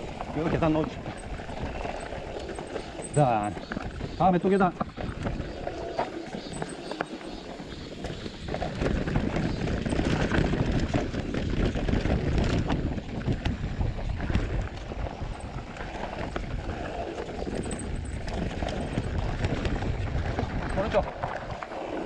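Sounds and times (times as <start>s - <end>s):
bike knocking and rattling: 0.0s - 22.0s
tyres rolling over dirt and rock: 0.0s - 22.0s
wind on microphone: 0.0s - 22.0s.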